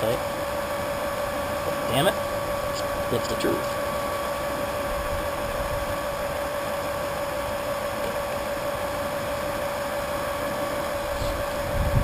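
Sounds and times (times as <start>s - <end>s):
electric pump whining: 0.0s - 12.0s.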